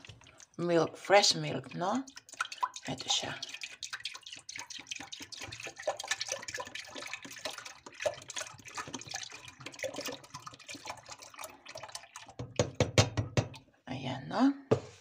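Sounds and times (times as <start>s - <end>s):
milk pouring into a pot: 0.0s - 13.7s.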